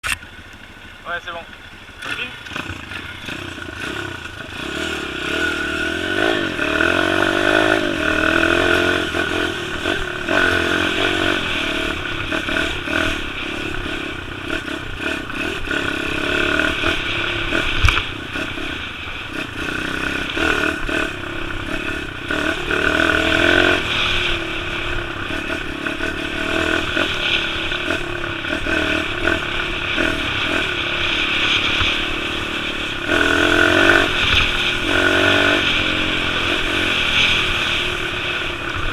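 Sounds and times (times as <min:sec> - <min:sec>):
small motorbike engine revving: 0:01.9 - 0:38.9.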